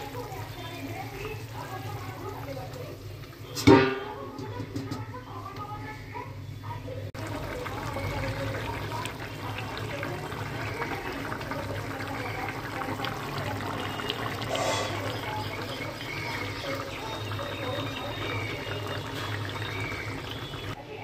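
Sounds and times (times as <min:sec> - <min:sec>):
curry bubbling and popping: 0:00.0 - 0:06.1, 0:07.1 - 0:20.8.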